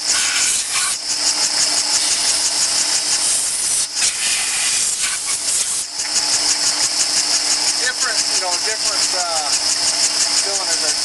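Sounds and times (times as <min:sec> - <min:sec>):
cutter scraping hiss: 0:00.0 - 0:11.0
motor hum: 0:00.0 - 0:11.0.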